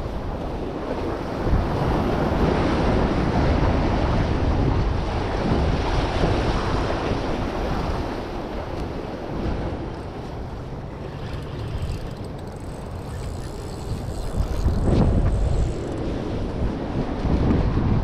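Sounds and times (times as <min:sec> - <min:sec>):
wind buffeting microphone: 0:00.0 - 0:18.0
surf washing against rocks: 0:00.1 - 0:18.0.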